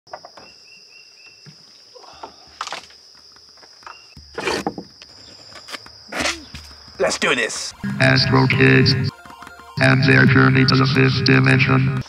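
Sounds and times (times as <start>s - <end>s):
high insect drone: 0.1s - 12.0s.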